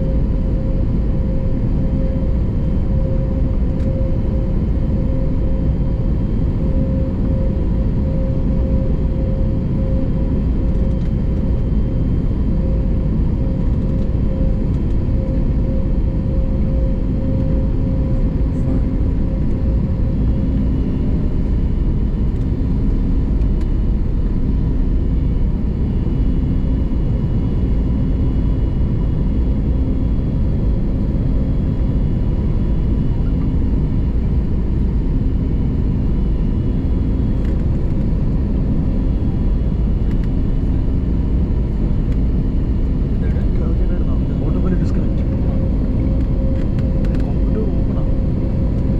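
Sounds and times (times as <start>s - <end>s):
airplane cabin engine roar: 0.0s - 48.9s
steady low hum: 0.0s - 48.9s.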